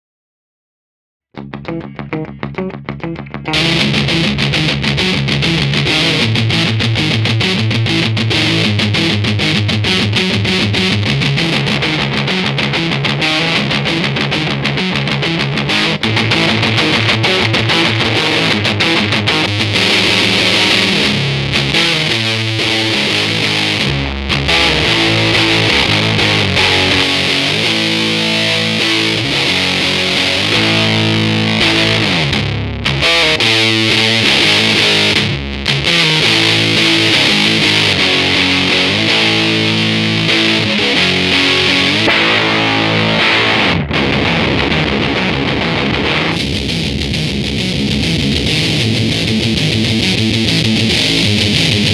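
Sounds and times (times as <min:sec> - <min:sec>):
distorted electric guitar riff: 0:01.4 - 0:51.9.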